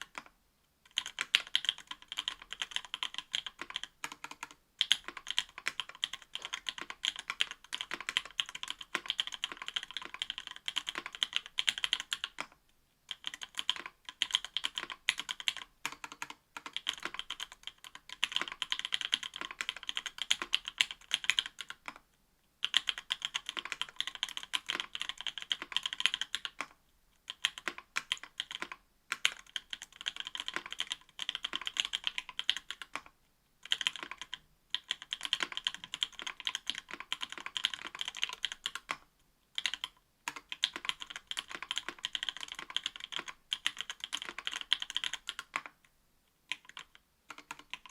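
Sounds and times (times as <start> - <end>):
mechanical keyboard typing: 0.0 - 0.3, 0.9 - 22.0, 22.6 - 39.0, 39.6 - 45.8, 46.5 - 47.9.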